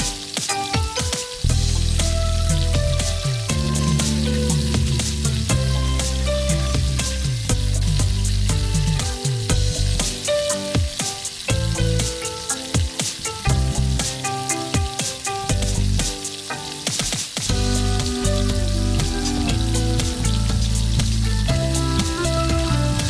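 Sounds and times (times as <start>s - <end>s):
background music with bass line: 0.0s - 23.0s
food sizzling in a pan: 0.0s - 23.0s.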